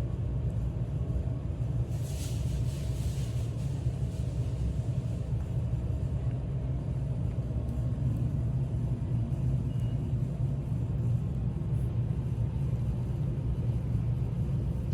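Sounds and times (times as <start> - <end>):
road rumble inside car: 0.0 - 14.9.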